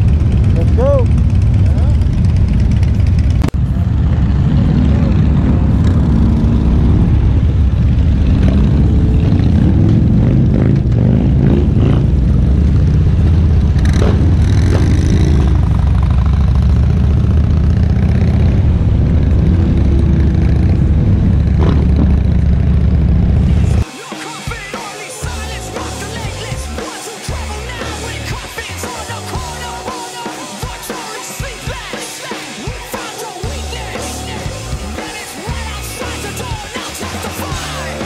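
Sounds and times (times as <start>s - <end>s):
motorcycle engines revving: 0.0s - 23.9s, 24.6s - 38.0s.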